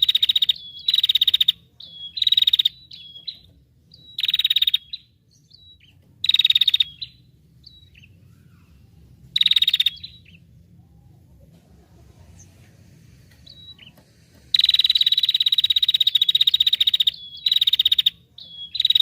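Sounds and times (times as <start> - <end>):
songbird fast trill: 0.0 - 10.5, 13.4 - 19.0.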